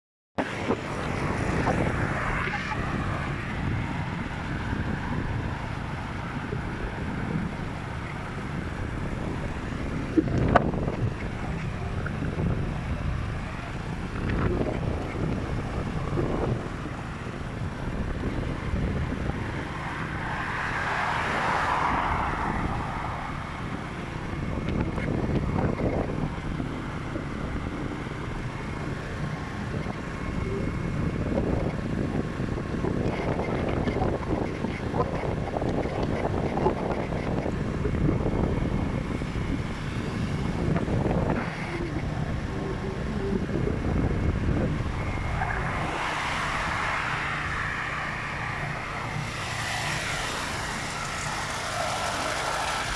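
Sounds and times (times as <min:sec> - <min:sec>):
road noise: 0:00.4 - 0:52.9
wind on microphone: 0:00.4 - 0:52.9.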